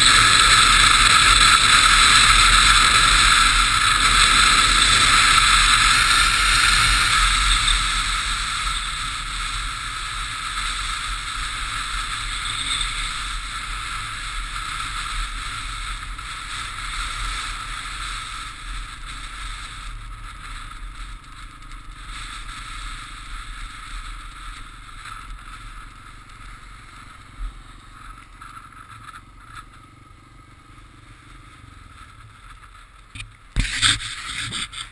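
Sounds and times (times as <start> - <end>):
wind and road noise on motorcycle: 0.0 - 34.9.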